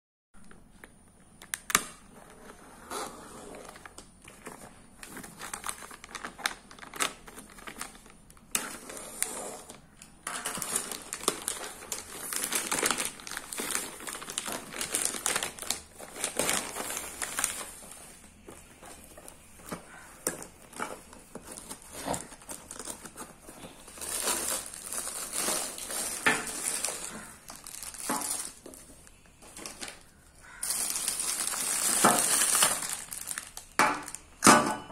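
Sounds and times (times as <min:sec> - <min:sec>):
plastic mailer crinkling and tearing: 0:01.4 - 0:34.4.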